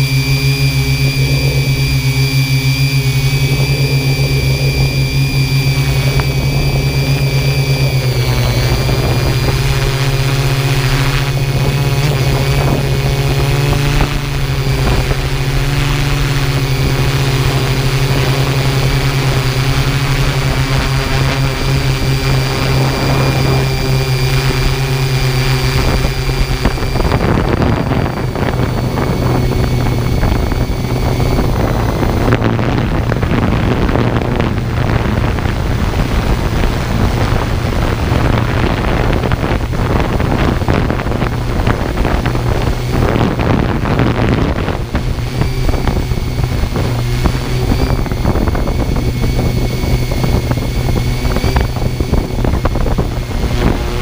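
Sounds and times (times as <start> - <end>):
drone motors humming and whining: 0.0 - 54.0.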